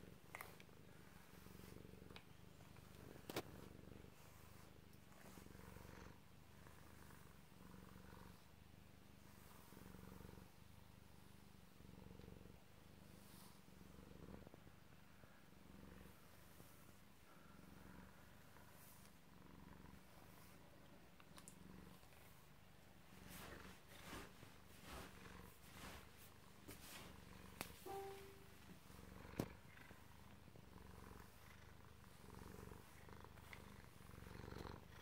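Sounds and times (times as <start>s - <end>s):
cat purring: 0.0s - 35.0s.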